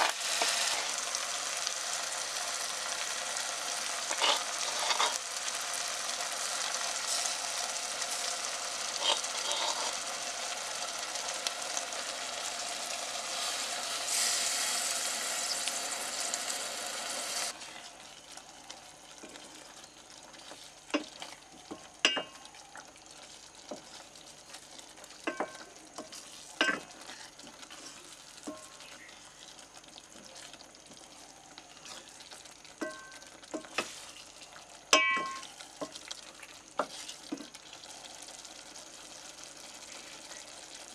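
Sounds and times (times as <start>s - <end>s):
chicken sizzling in a pot: 0.0s - 40.9s.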